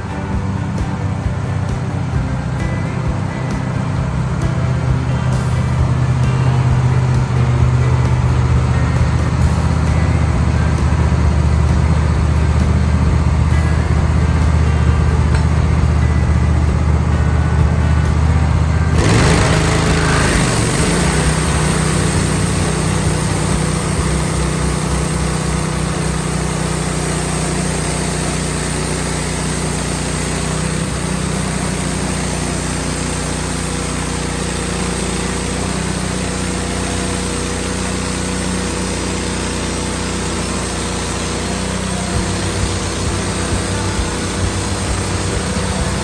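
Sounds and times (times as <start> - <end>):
band sawmill cutting log: 0.0 - 46.0.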